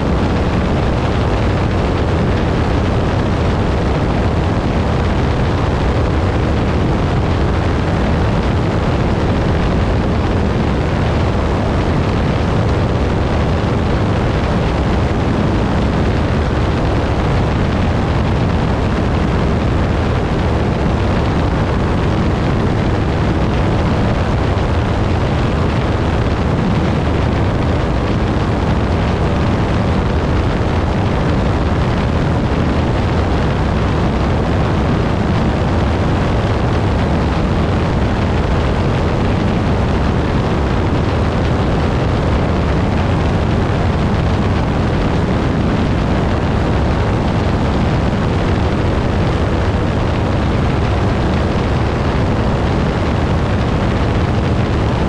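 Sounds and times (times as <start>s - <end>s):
propeller plane engine drone: 0.0s - 55.0s
wind noise: 0.0s - 55.0s.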